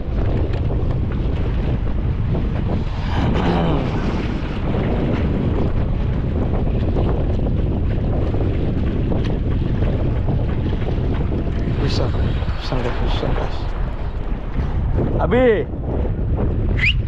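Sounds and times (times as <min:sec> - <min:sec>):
faint sea: 0:00.0 - 0:17.0
wind buffeting microphone: 0:00.0 - 0:17.0.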